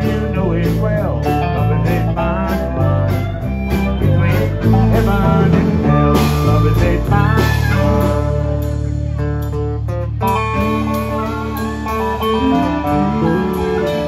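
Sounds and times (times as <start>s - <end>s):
drums: 0.0s - 14.0s
electric bass: 0.0s - 14.0s
harmonica holding long notes: 0.0s - 14.0s
strummed acoustic guitar: 0.0s - 14.0s.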